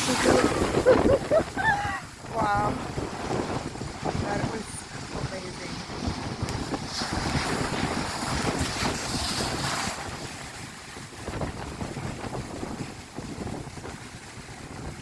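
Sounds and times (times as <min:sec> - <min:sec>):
ocean surf washing over rocks: 0:00.0 - 0:15.0
wind buffeting microphone: 0:00.0 - 0:15.0.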